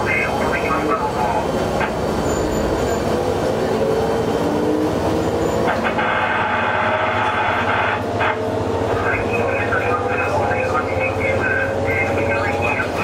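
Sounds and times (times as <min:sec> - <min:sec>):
diesel railcar engine running: 0:00.0 - 0:13.0.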